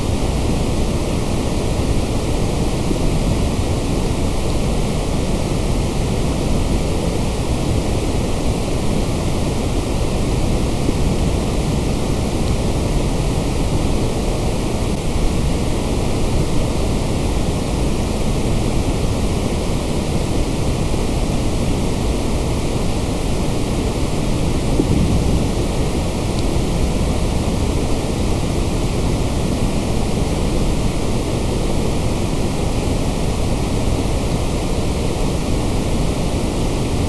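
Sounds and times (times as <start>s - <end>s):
white noise hiss: 0.0s - 37.0s.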